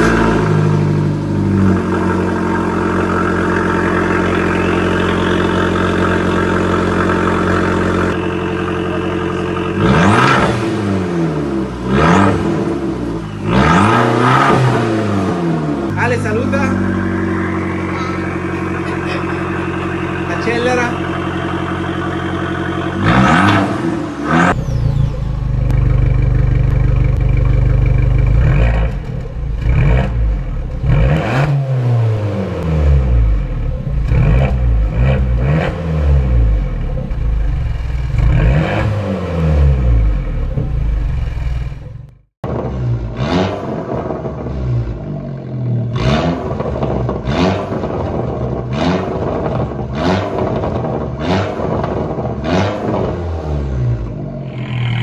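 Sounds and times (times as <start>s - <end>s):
car engine revving: 0.0s - 55.0s
exhaust cracks: 0.0s - 55.0s.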